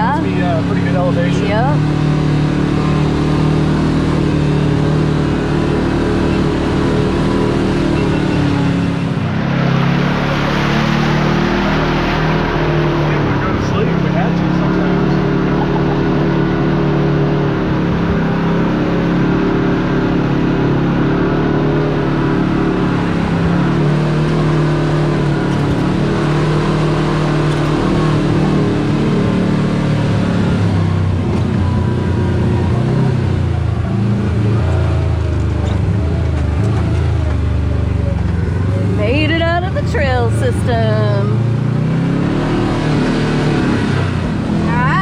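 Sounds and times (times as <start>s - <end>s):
utv engine running: 0.0s - 45.0s.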